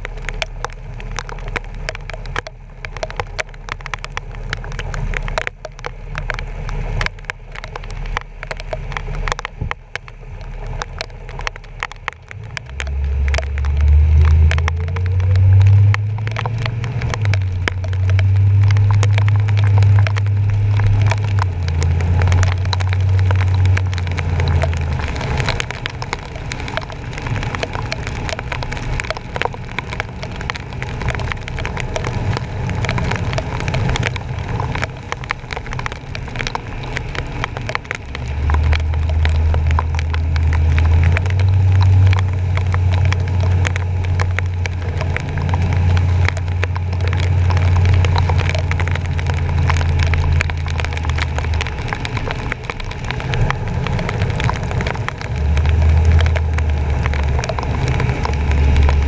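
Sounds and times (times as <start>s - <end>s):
low rumble: 0.0s - 59.0s
rain and water spray hitting camera: 0.0s - 59.0s.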